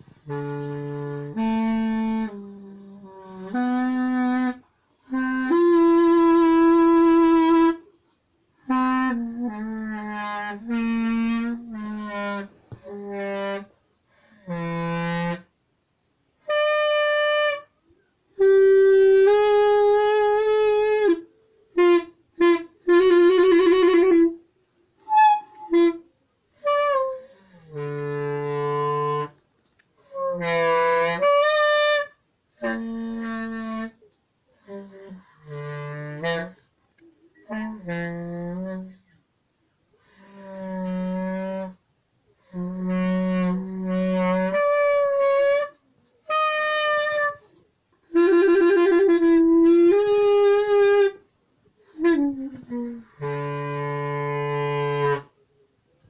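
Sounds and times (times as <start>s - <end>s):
solo clarinet: 0.0s - 8.0s, 8.6s - 15.6s, 16.4s - 29.4s, 30.0s - 39.2s, 39.9s - 41.8s, 42.4s - 55.4s.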